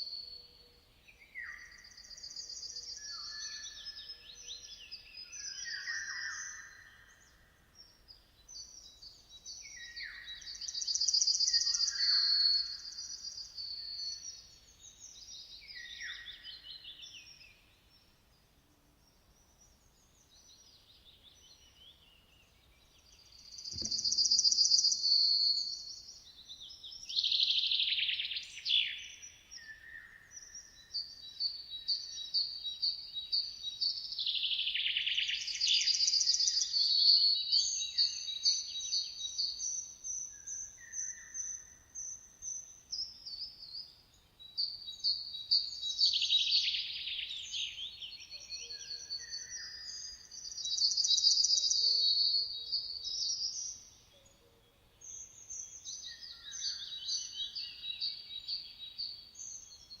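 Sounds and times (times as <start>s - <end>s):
songbirds chirping and singing: 0.0s - 60.0s.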